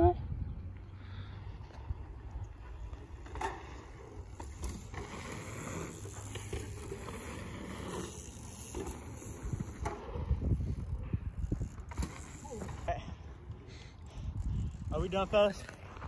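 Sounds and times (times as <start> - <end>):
wind rumbling on microphone: 0.0 - 7.1, 7.8 - 16.0
bike tyres rolling over dirt: 0.6 - 16.0.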